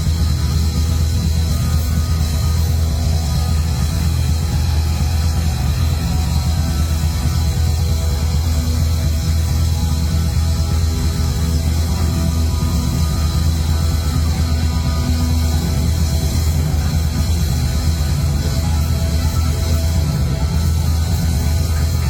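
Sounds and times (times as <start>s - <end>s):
loud heavy rock music: 0.0s - 22.0s.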